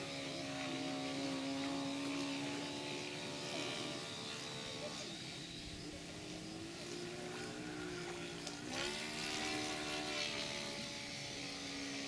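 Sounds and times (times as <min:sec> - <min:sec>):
model airplane motor and propeller: 0:00.0 - 0:12.0.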